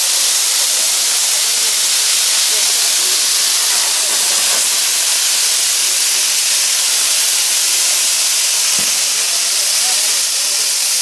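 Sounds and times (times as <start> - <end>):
fireworks spraying sparks hiss: 0.0 - 11.0.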